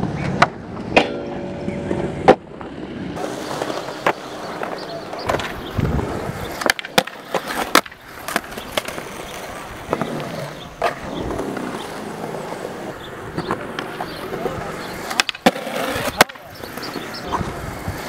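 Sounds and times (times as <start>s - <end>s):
skateboard clacking on ground: 0.0s - 18.0s
skateboard wheels rolling on concrete: 0.0s - 18.0s.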